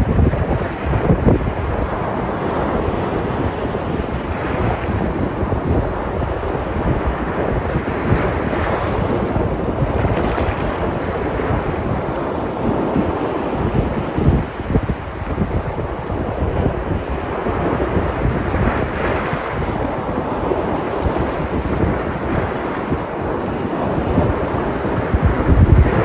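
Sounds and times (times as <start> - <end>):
sea waves breaking on shore: 0.0 - 26.0
wind buffeting microphone: 0.0 - 26.0.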